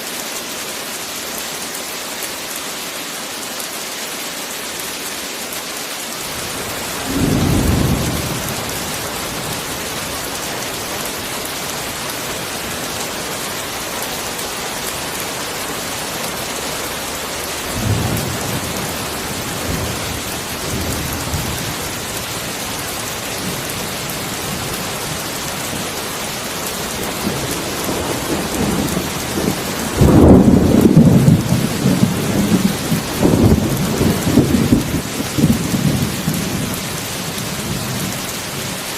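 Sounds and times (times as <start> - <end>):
heavy rain hissing: 0.0 - 38.9
thunder rumbling: 6.3 - 38.6.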